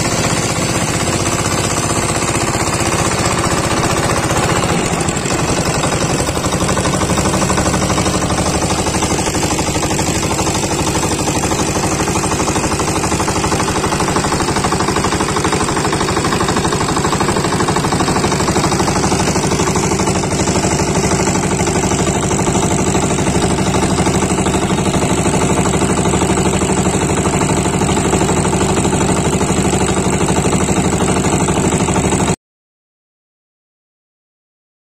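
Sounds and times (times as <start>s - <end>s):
diesel boat engine knocking: 0.0s - 32.4s.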